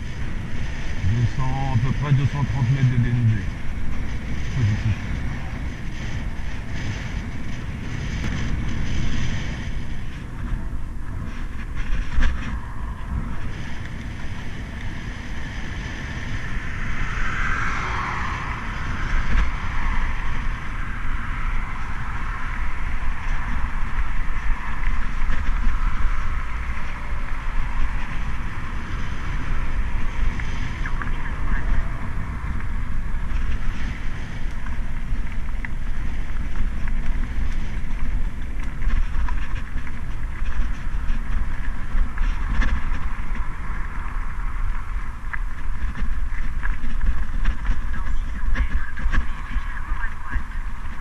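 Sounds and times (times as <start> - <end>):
bike tyres rolling on gravel: 0.0 - 51.0
wind on microphone: 0.0 - 51.0.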